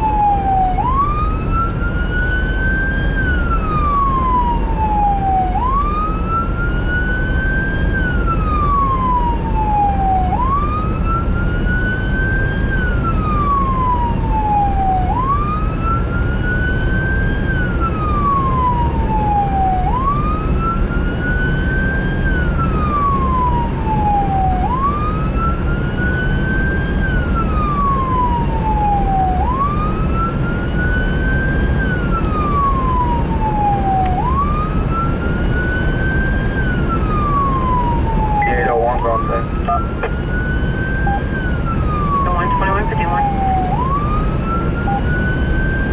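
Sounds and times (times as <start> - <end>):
engine and road noise: 0.0 - 45.9
siren wailing: 0.0 - 45.9.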